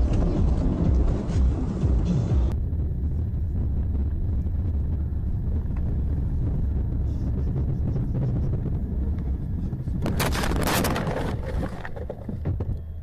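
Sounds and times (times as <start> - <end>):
car driving on snowy road: 0.0 - 13.0.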